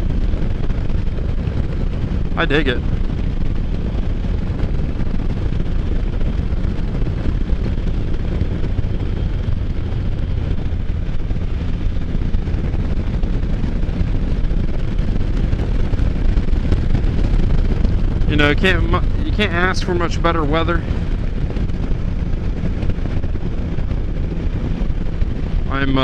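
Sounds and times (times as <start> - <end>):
engine and road drone: 0.0 - 26.0
wind buffeting on microphone: 0.0 - 26.0.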